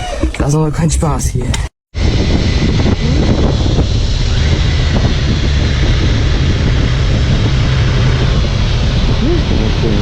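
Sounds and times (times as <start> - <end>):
wind buffeting microphone: 0.0 - 10.0
motorcycle engine running: 2.0 - 10.0.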